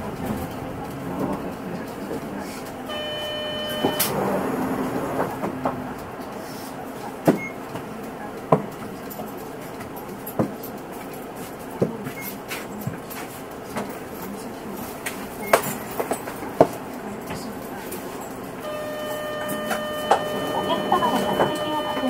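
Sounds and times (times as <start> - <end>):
bus cabin hum: 0.0 - 22.0.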